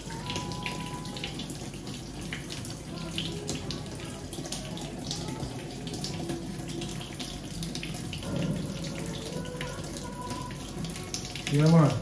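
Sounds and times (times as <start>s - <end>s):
tap water splashing into sink: 0.0s - 12.0s.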